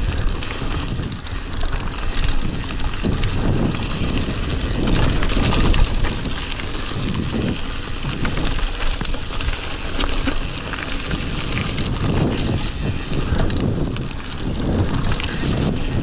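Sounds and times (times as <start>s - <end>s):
bike rattling: 0.0s - 16.0s
tyres crunching over loose stones: 0.0s - 16.0s
wind rumbling on microphone: 0.0s - 16.0s.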